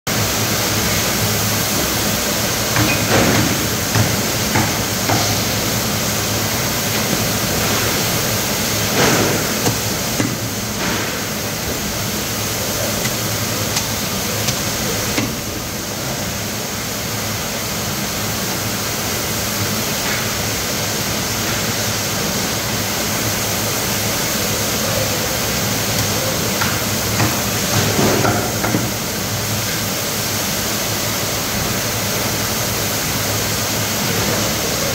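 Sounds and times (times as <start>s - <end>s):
steady loud hiss: 0.1s - 34.9s.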